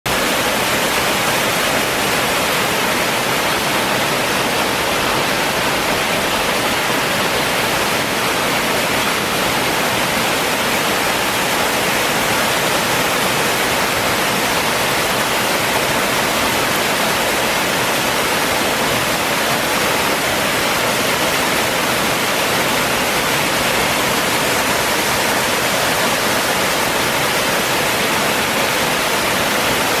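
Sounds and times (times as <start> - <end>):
waterfall rushing into pool: 0.1 - 30.0.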